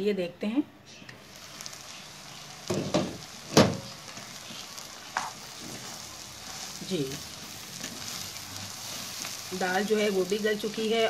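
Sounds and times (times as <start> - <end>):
steady sizzle: 0.8 - 11.0.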